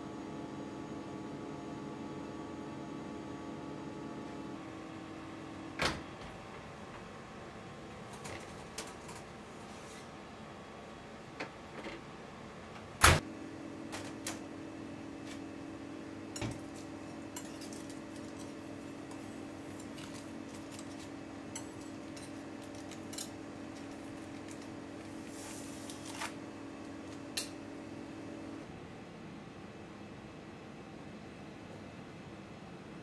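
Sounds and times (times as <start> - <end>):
steady low hum: 0.0 - 31.6.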